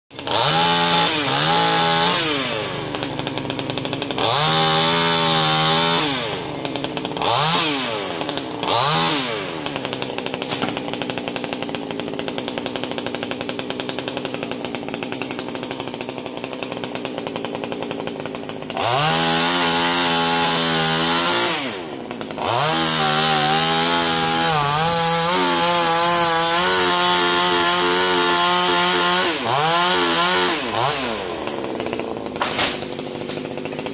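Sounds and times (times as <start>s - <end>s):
chainsaw revving and idling: 0.1s - 33.9s.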